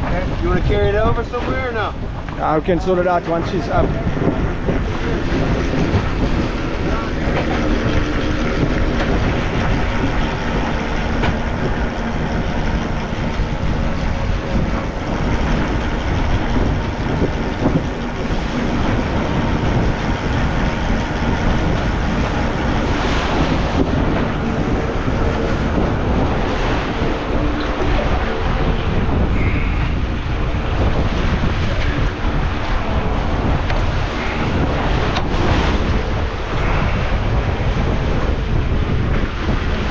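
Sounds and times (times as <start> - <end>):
ocean waves rushing: 0.0 - 39.9
wind buffeting microphone: 0.0 - 39.9.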